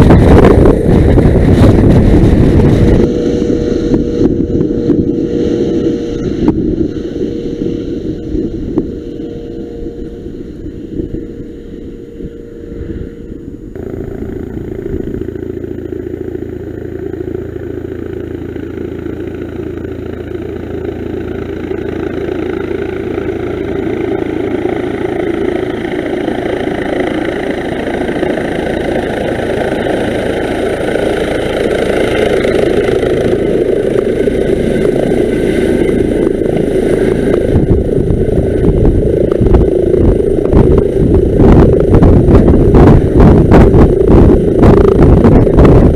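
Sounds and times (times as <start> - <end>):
helicopter turbines and rotor: 0.0 - 45.9.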